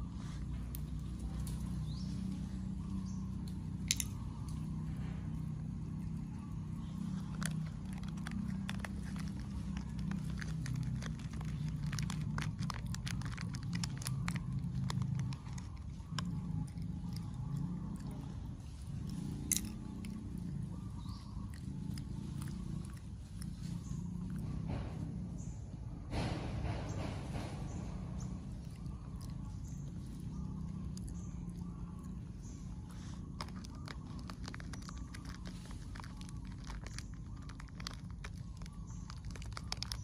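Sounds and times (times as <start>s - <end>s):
low background rumble: 0.0s - 40.0s
small clicks and ticks: 3.3s - 4.8s, 5.4s - 25.0s, 28.2s - 40.0s.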